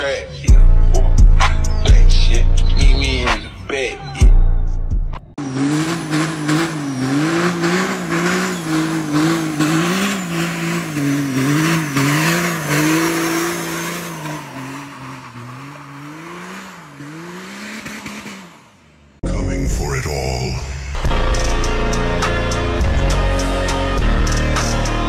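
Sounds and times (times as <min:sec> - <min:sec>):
truck engine revving: 0:00.0 - 0:19.2, 0:21.0 - 0:25.0.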